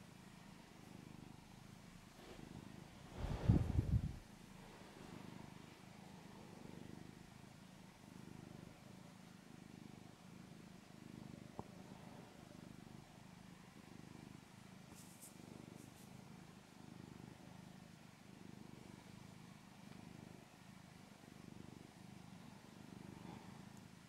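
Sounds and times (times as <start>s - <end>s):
cat purring softly: 0.0s - 24.0s.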